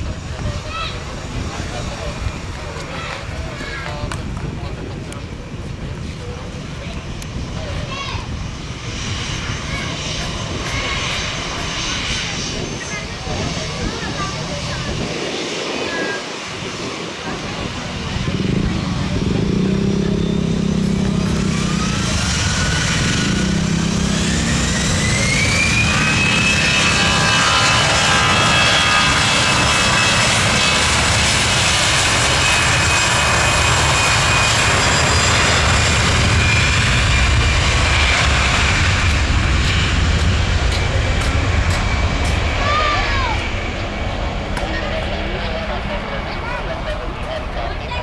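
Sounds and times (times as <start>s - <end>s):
jet engines spooling up: 0.0s - 48.0s.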